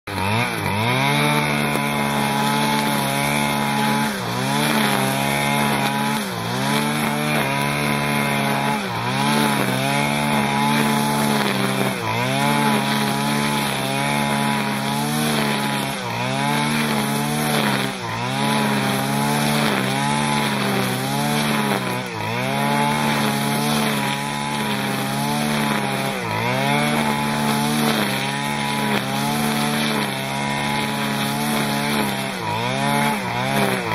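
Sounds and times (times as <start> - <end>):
blade cutting grass: 0.0 - 33.9
brush cutter engine at high revs: 0.0 - 33.9.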